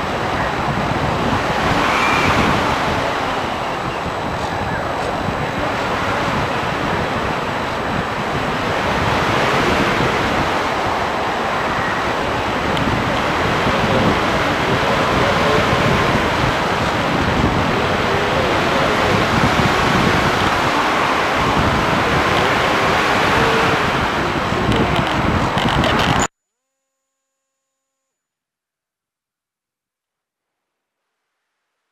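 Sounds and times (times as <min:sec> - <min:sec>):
wind rushing over microphone: 0:00.0 - 0:26.3.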